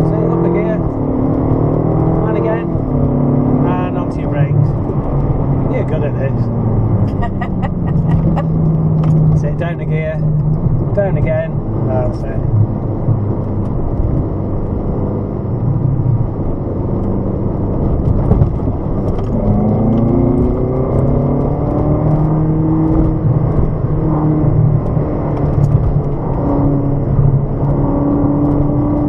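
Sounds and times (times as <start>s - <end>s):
car engine accelerating: 0.0s - 29.0s
road and wind rumble: 0.0s - 29.0s.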